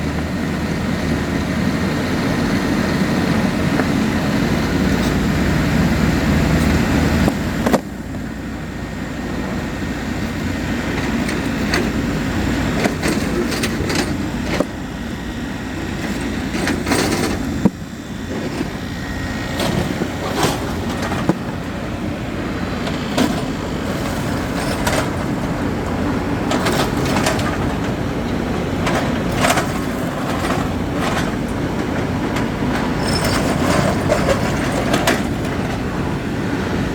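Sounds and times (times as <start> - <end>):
construction machinery rumbling: 0.0 - 36.9.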